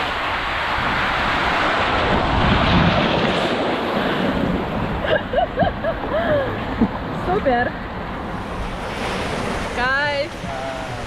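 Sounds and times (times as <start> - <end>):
rushing water: 0.0 - 11.0
wind buffeting microphone: 0.0 - 11.0.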